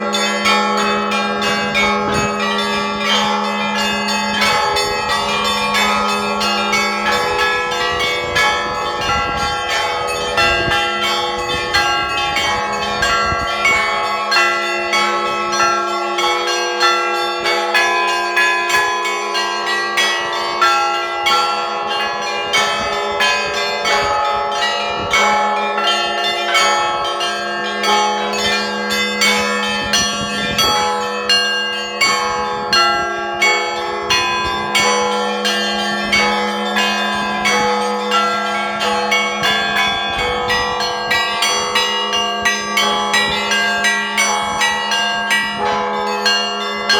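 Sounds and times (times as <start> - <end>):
deep bell humming: 0.0 - 46.9
small church bells ringing: 0.0 - 46.9.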